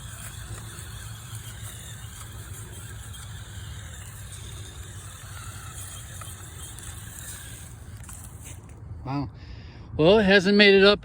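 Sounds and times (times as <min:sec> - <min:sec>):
rc truck motors whining: 0:00.0 - 0:08.8.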